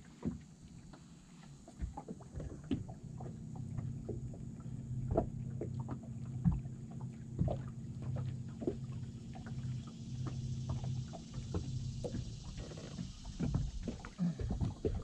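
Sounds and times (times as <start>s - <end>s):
water slapping against hull: 0.0s - 15.0s
electric trolling motor humming: 0.4s - 15.0s.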